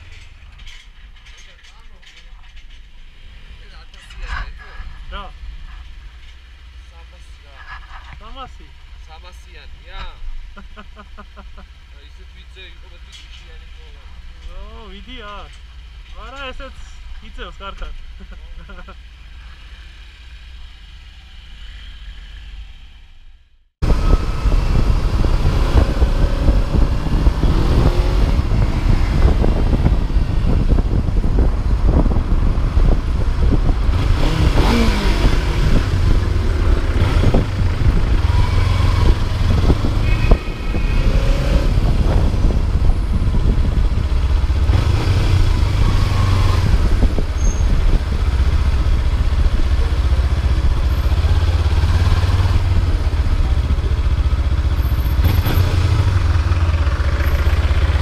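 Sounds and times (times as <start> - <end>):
city traffic: 0.0 - 58.0
motorcycle engine rumbling: 0.0 - 58.0.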